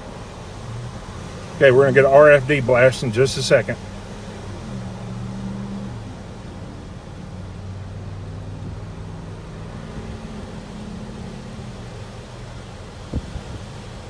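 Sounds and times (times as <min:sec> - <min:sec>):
vehicle engine and fan hum: 0:00.0 - 0:14.0.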